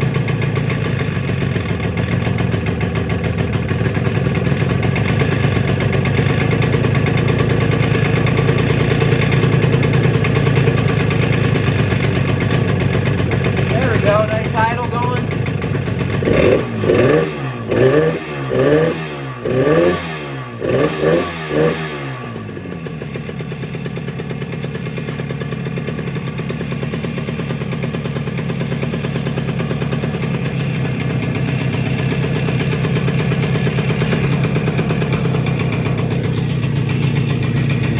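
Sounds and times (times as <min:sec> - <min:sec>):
motorcycle engine revving and idling: 0:00.0 - 0:37.9.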